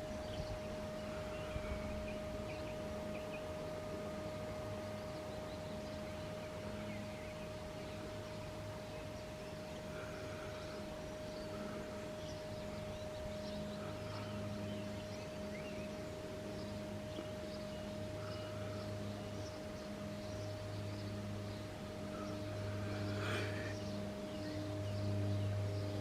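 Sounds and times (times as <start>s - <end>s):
faint bird chirps: 0.0s - 26.0s
low hum: 0.0s - 26.0s.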